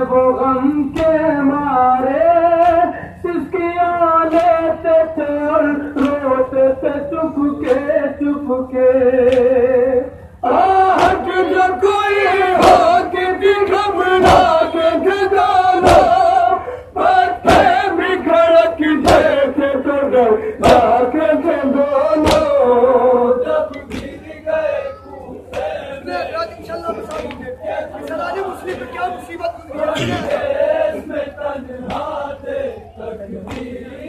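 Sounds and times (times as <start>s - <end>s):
group singing along: 0.0s - 34.0s
men chanting over a microphone: 0.0s - 34.0s.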